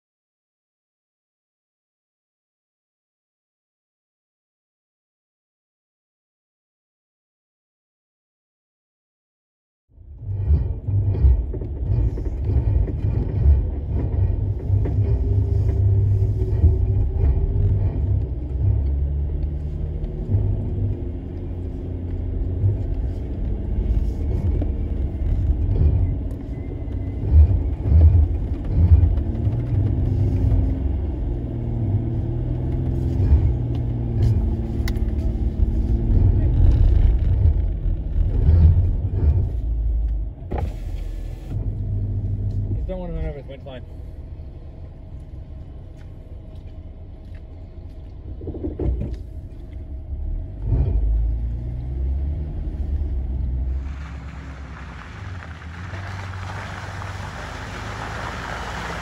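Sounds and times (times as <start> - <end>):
truck engine rumbling: 10.0 - 59.0.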